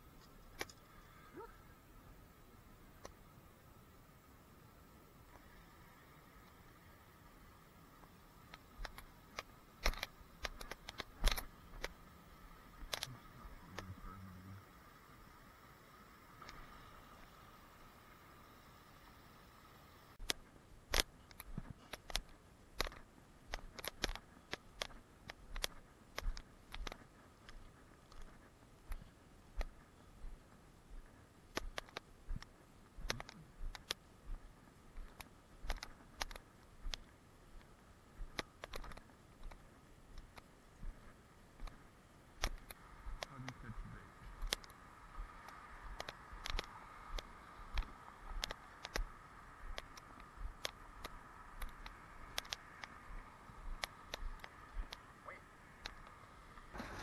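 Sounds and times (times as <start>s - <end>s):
faint steady tone: 0.0s - 57.0s.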